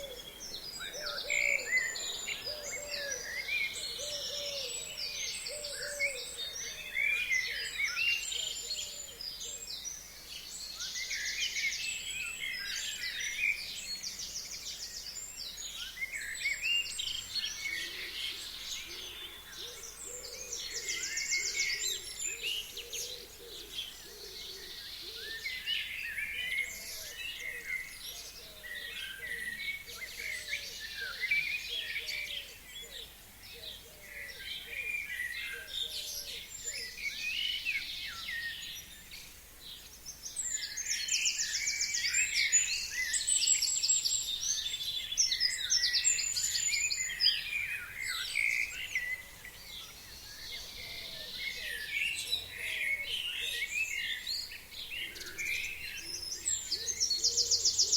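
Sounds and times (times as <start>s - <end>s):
songbirds chirping and trilling: 0.0s - 57.9s.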